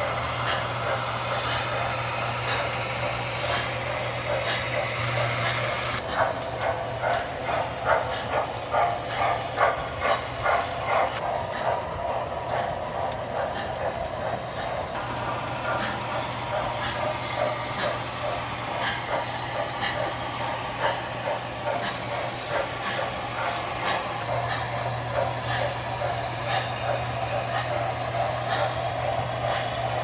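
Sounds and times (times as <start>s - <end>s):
model train humming and rumbling: 0.0s - 30.0s
rhythmic clicking of train: 0.0s - 30.0s.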